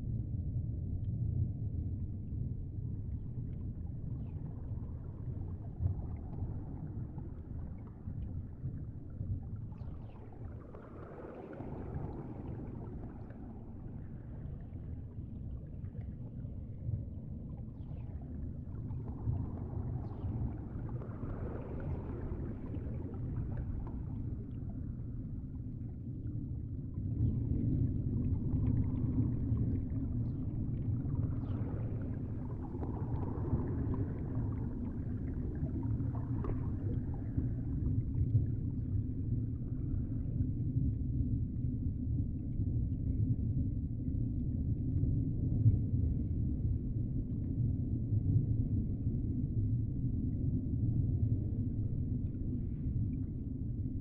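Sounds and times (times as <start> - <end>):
aquarium water rumbling: 0.0 - 54.0.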